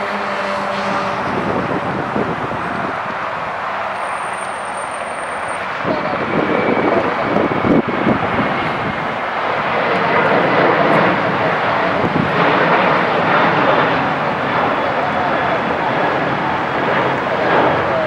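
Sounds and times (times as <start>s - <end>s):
jet airliner taking off: 0.0s - 18.0s.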